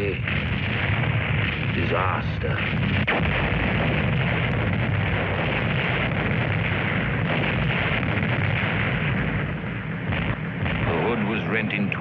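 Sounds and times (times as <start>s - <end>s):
explosion deep rumble: 0.0s - 12.0s.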